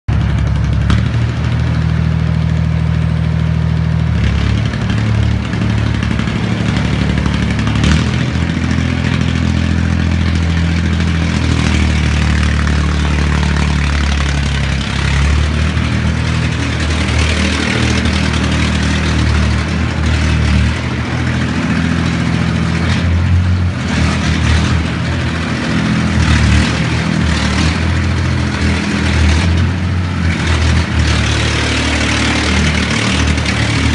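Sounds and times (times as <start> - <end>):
pile driver engine running: 0.1 - 33.9.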